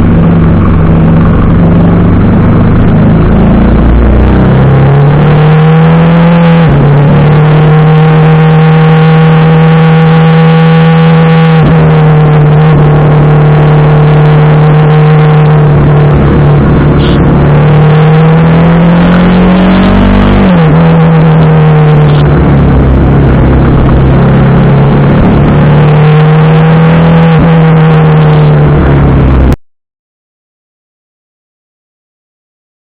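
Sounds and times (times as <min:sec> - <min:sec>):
motorcycle engine running: 0:00.0 - 0:29.6.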